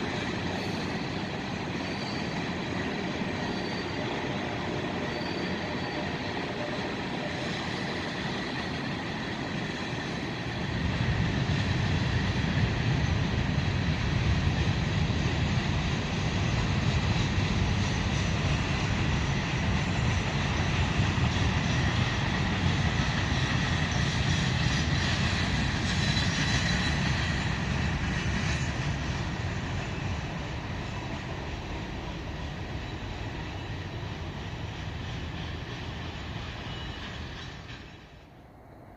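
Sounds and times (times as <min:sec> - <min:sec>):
freight train rumbling on rails: 0:00.0 - 0:38.9.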